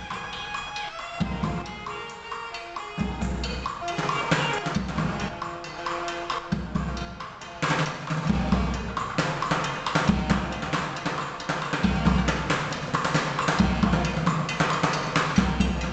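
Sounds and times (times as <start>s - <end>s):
bucket drumming: 0.0s - 15.9s
cymbal: 0.0s - 15.9s.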